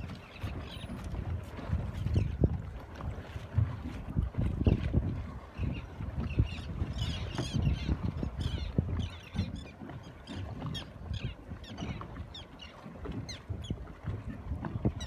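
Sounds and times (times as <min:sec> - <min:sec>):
water slapping against boat: 0:00.0 - 0:15.0
wind on microphone: 0:00.0 - 0:15.0.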